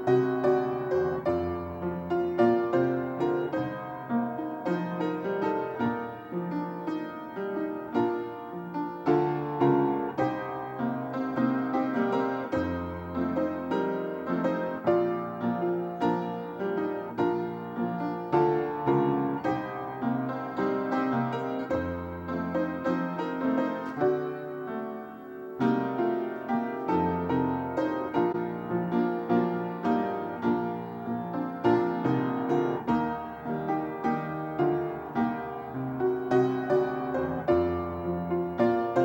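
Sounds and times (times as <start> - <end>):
slow piano piece: 0.0 - 39.0.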